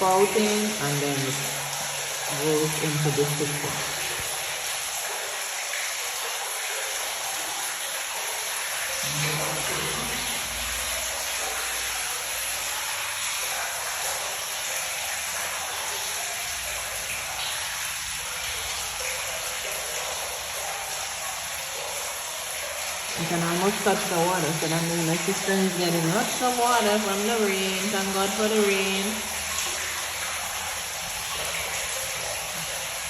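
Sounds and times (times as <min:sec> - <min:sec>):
water pouring into a cistern: 0:00.0 - 0:33.0.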